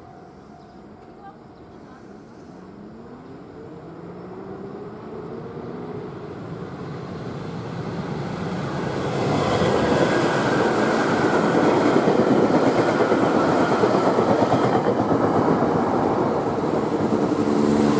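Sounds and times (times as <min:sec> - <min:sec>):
electric train passing: 0:00.0 - 0:17.9
train rushing noise: 0:02.0 - 0:17.9.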